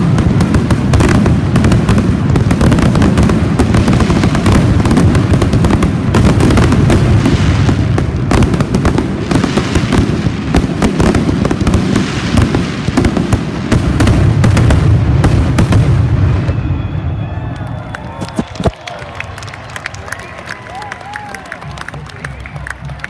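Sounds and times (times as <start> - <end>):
fireworks booming and crackling: 0.0 - 19.6.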